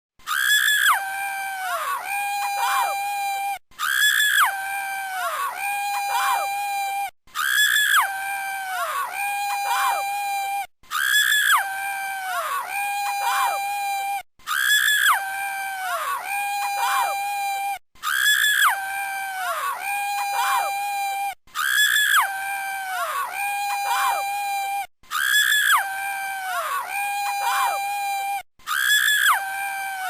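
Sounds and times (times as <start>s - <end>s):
person screaming: 0.4s - 30.0s.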